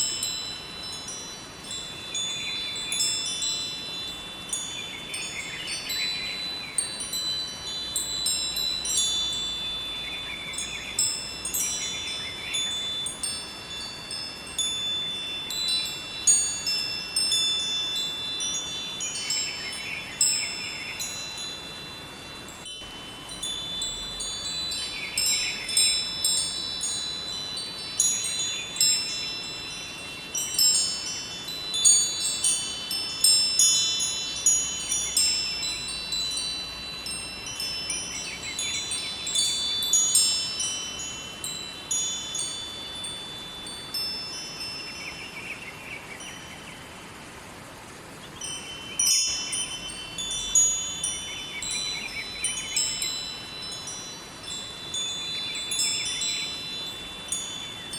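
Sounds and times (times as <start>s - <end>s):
river water rushing: 0.0s - 57.9s
wind chimes ringing: 0.0s - 57.9s.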